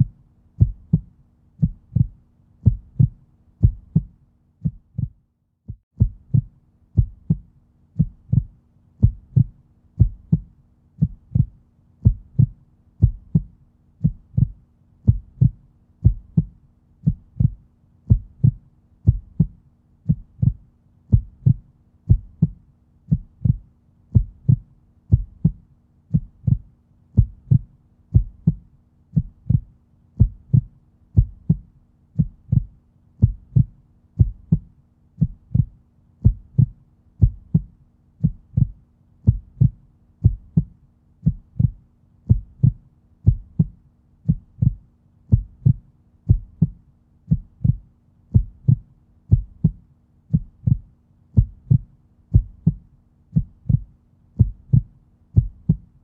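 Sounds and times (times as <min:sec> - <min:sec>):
heartbeat thumping: 0:00.0 - 0:56.0
faint steady hum: 0:06.0 - 0:56.0.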